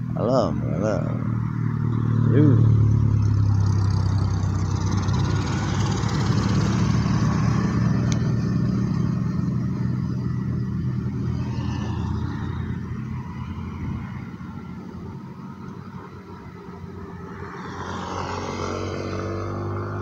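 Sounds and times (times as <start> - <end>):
large vehicle engine passing: 0.0 - 20.0.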